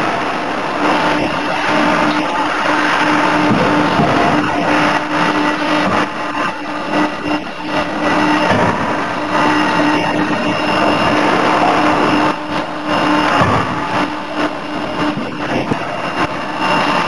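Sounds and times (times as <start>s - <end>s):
forging hammer machinery running: 0.0s - 17.0s
machine hum: 0.0s - 17.0s.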